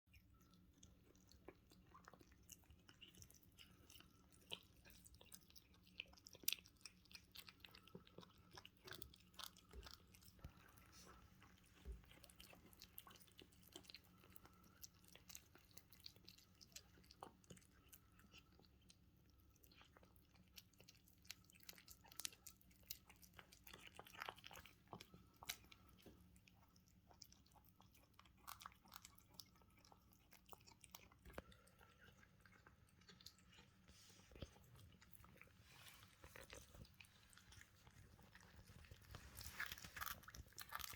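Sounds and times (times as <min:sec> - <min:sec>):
kittens crunching food: 0:00.1 - 0:40.9.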